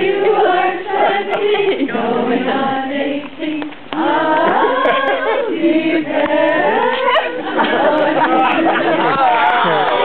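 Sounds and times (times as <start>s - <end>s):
woman singing: 0.0s - 8.8s
choir singing: 0.0s - 10.0s.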